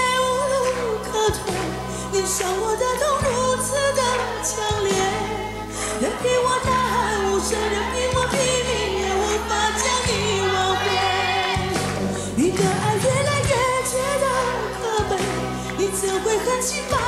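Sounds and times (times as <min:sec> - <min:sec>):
sustained bass notes: 0:00.0 - 0:17.0
woman singing a pop ballad: 0:00.0 - 0:17.0.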